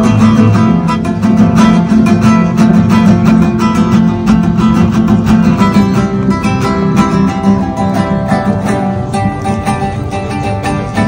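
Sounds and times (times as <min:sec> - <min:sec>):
acoustic guitar played fast: 0:00.0 - 0:11.0.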